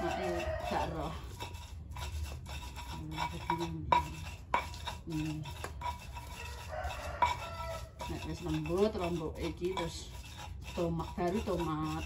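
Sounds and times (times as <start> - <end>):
stone pestle grinding: 0.0 - 12.0.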